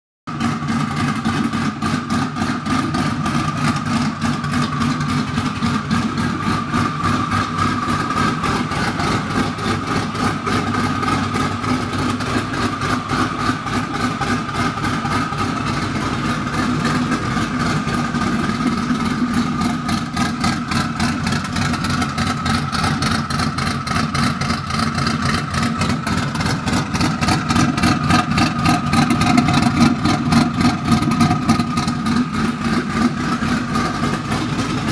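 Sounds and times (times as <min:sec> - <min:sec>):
car engine idling: 0:00.3 - 0:34.9.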